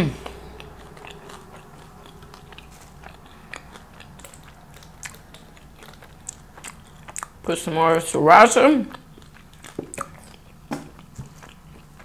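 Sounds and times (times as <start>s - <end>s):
crunchy chewing: 0.1s - 7.5s, 8.9s - 12.0s
wet mouth clicks: 0.2s - 7.4s, 8.9s - 11.9s.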